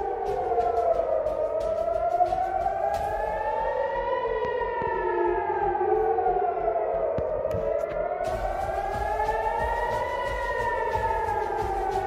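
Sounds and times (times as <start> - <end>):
air-raid sirens wailing: 0.0 - 12.0.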